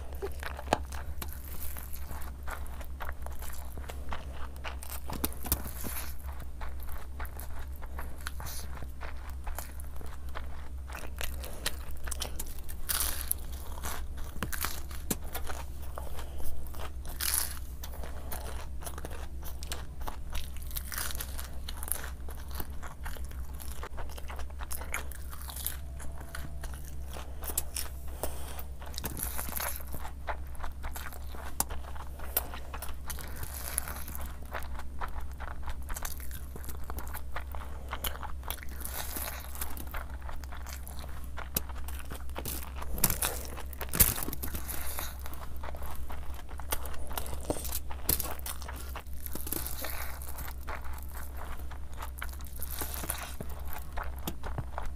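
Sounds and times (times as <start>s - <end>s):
person chewing crunchy food: 0.0s - 54.9s
steady low hum: 0.0s - 54.9s.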